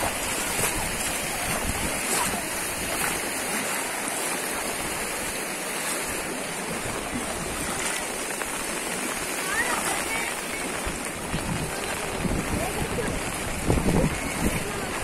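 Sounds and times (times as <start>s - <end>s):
floodwater rushing over road: 0.0s - 15.0s.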